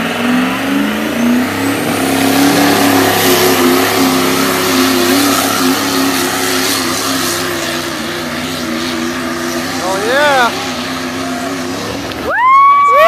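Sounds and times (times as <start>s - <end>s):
pickup truck engine under load: 0.0s - 12.3s.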